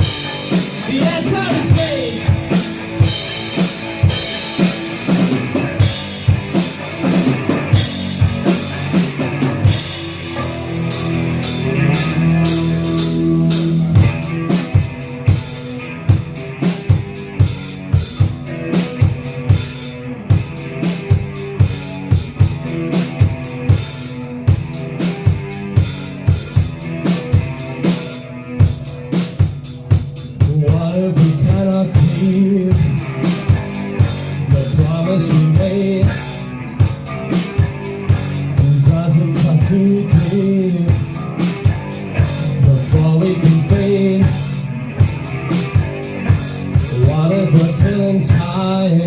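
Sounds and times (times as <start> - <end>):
live punk rock band playing: 0.0 - 49.0.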